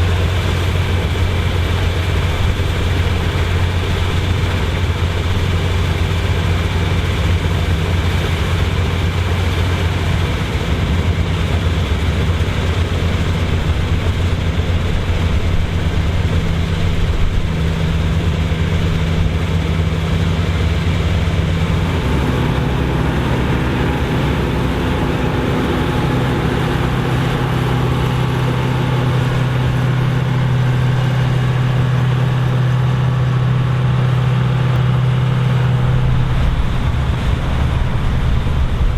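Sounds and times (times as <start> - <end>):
combine engine running: 0.0 - 38.9
dense mechanical clatter: 0.0 - 38.9.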